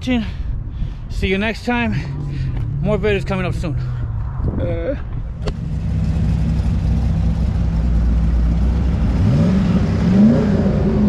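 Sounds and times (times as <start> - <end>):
car engine droning and revving: 1.5 - 11.0.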